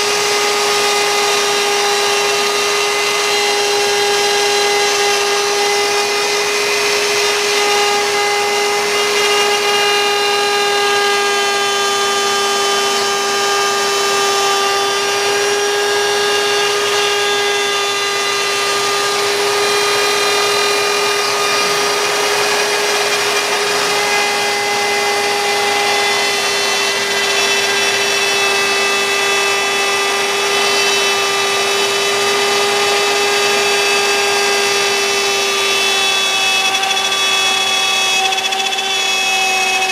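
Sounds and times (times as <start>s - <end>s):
hiss of wood cutting: 0.0s - 39.9s
router spindle whining: 0.0s - 39.9s.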